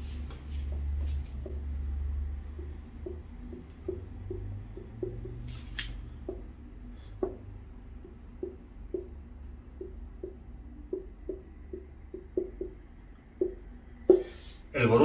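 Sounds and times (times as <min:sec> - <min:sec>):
marker pen writing on whiteboard: 0:00.0 - 0:14.5
low hum: 0:00.0 - 0:15.0.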